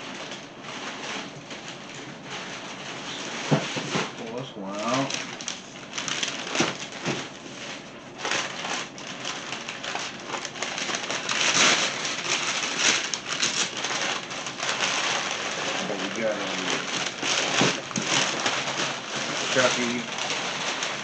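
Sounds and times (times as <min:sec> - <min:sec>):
packing wrap crinkling and tearing: 0:00.0 - 0:21.0.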